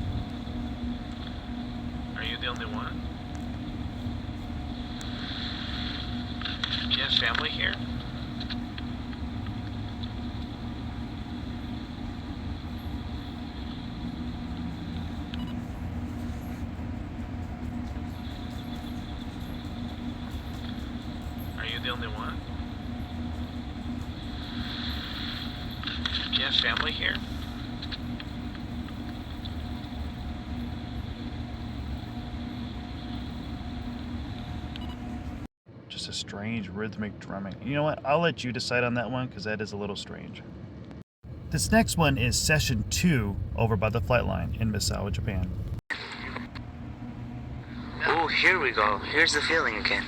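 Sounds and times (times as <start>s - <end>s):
pulsing hum: 0.0s - 35.5s, 41.3s - 50.0s
steady low rumble: 0.0s - 35.5s, 41.3s - 50.0s.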